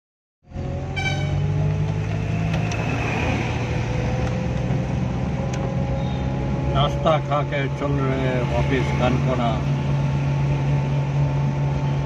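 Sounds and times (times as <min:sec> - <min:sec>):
low engine drone: 0:00.4 - 0:12.0.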